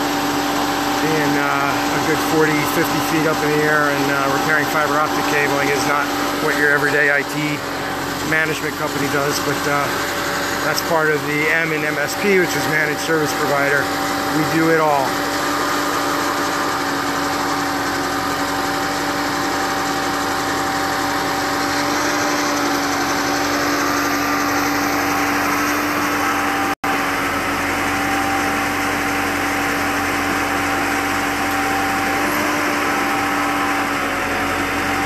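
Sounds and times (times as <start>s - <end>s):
engine humming steadily: 0.0s - 35.0s.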